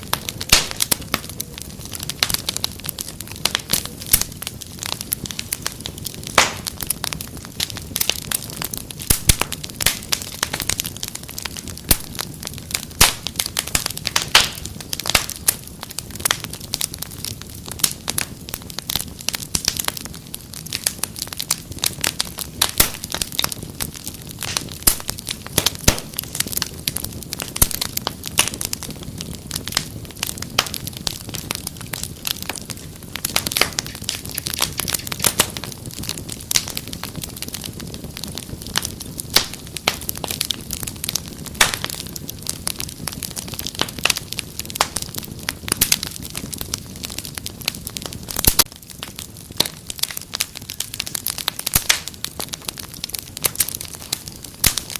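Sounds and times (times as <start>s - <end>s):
low rush of flame: 0.0s - 54.9s
wood fire crackling: 0.0s - 54.9s.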